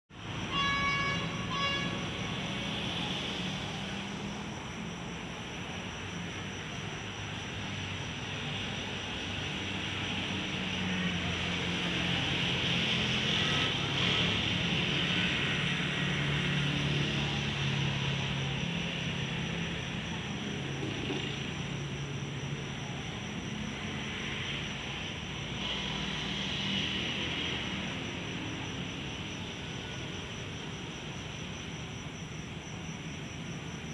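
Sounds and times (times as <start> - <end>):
locomotive diesel engine drone: 0.2 - 33.9.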